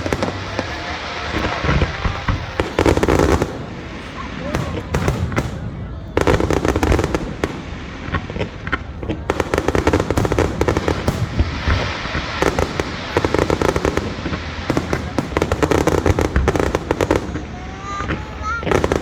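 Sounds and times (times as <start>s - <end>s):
fireworks crackling pops: 0.0s - 19.0s.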